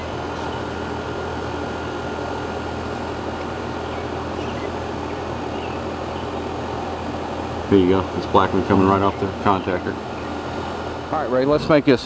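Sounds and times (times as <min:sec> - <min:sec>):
compressor low hum: 0:00.0 - 0:12.0
condenser fan rushing: 0:00.0 - 0:12.0.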